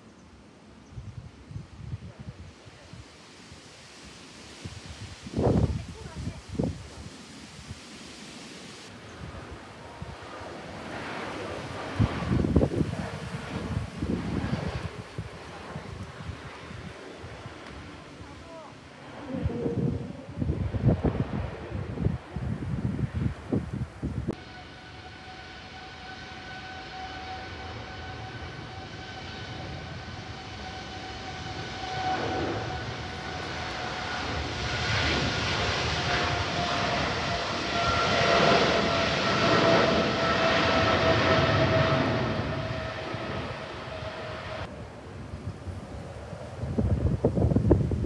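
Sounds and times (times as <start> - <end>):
jet engine rumble: 0.6 - 48.0
jet engines high whine: 2.5 - 48.0.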